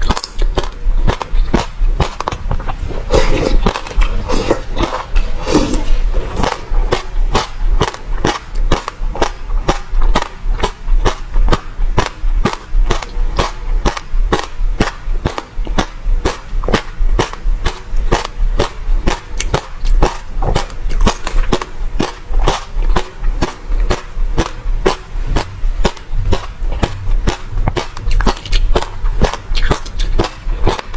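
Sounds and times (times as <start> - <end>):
chewing crunchy seeds: 0.0 - 30.9.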